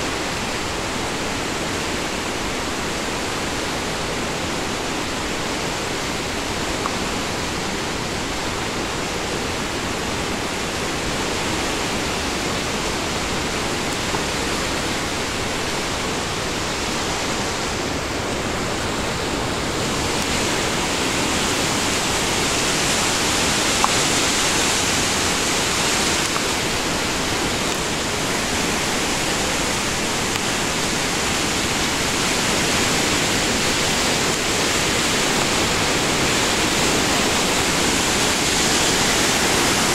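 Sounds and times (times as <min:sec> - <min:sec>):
whitewater rushing through gorge: 0:00.0 - 0:39.9.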